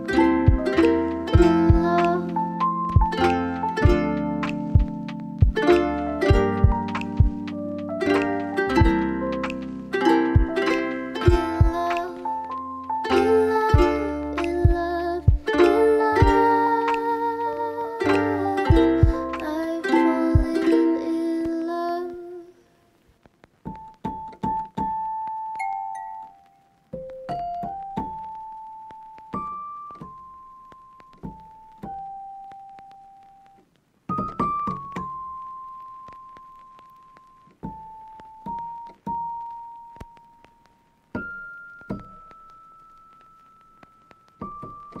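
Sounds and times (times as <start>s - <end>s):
piano music: 0.0s - 22.0s, 23.7s - 45.0s
slow keyboard melody: 0.0s - 22.5s, 23.7s - 45.0s.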